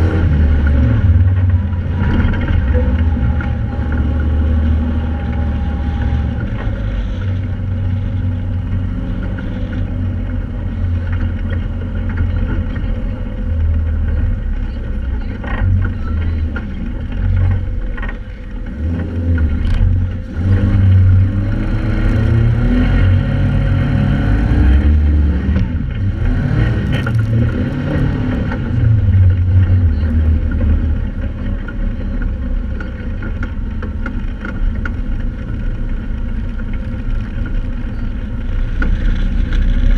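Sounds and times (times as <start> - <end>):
dune buggy engine revving: 0.0 - 39.9.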